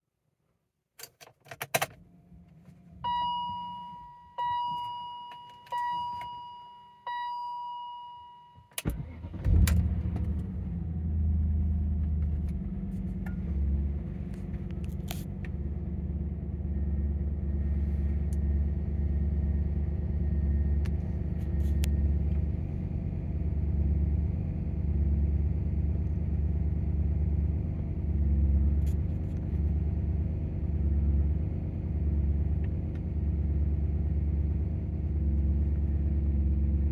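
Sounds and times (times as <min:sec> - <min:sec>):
car engine starting and idling: 0:01.1 - 0:07.5, 0:08.6 - 0:36.9.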